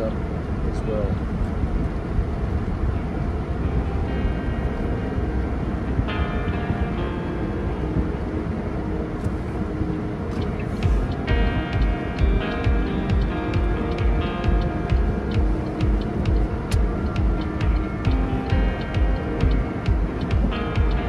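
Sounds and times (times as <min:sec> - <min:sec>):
car engine and road rumble: 0:00.0 - 0:21.0
background music: 0:03.0 - 0:21.0.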